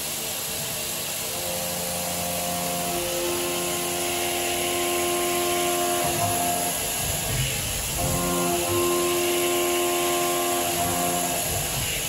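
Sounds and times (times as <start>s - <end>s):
milling machine hiss: 0.0s - 12.0s
metal cutting tone: 1.3s - 12.0s.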